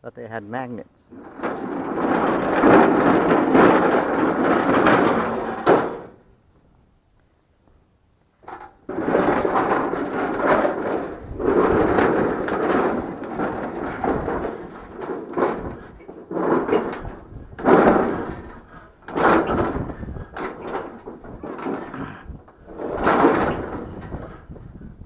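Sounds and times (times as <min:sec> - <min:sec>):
object dragged scraping and rattling: 0:01.1 - 0:06.2, 0:08.5 - 0:24.6.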